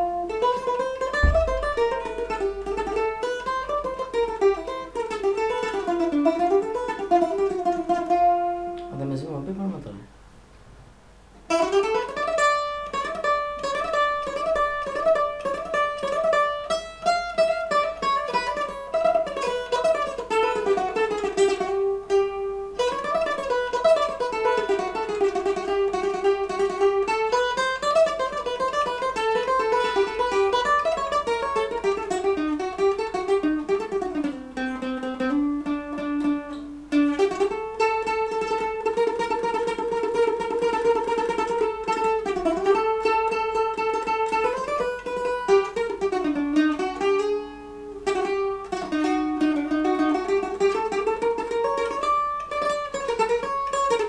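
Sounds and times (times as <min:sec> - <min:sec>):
mandolin tremolo melody: 0:00.0 - 0:09.5, 0:11.5 - 0:54.0.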